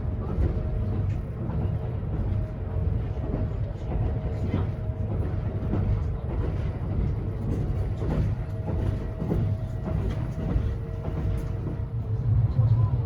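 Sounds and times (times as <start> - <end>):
electric train cabin rumble: 0.0 - 13.0.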